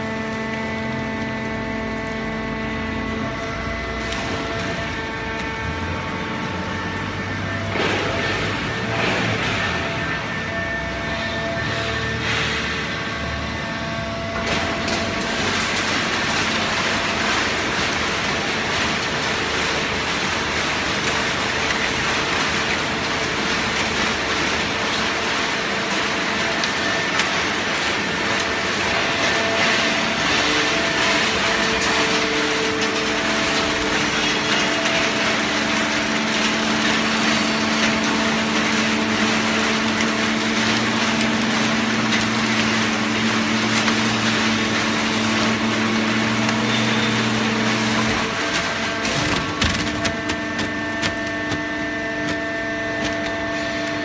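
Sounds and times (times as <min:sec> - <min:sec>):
hydraulic baler running: 0:00.0 - 0:54.0.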